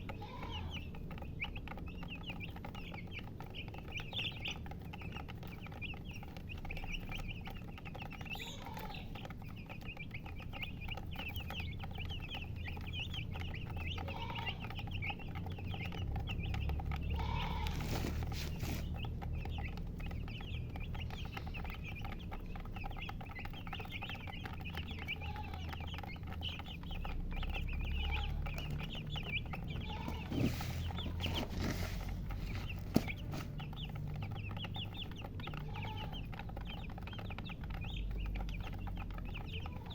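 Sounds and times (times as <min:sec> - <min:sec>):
baby chicks peeping: 0:00.0 - 0:39.9
hen clucking: 0:00.0 - 0:39.9.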